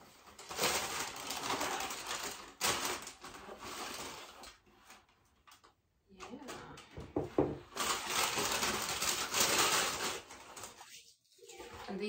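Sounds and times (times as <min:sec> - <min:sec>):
tissue paper rustling: 0:00.0 - 0:05.3, 0:07.6 - 0:12.0.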